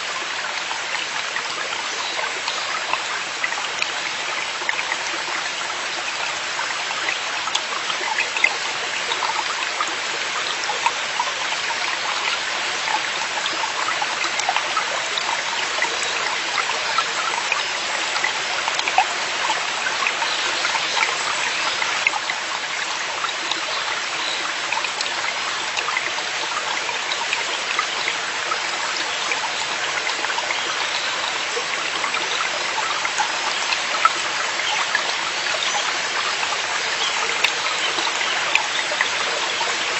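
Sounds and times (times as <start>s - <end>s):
stream flowing over rocks: 0.0s - 39.9s
water trickling and splashing: 0.0s - 39.9s.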